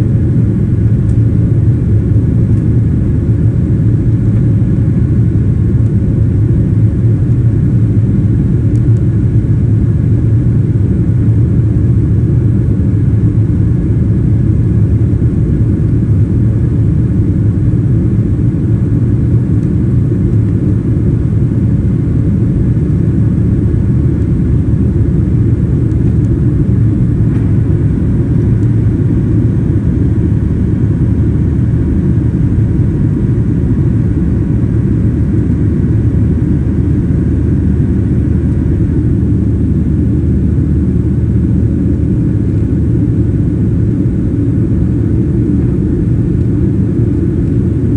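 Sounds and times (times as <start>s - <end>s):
faint engine whine: 0.0s - 47.9s
jet engines rumbling: 0.0s - 47.9s.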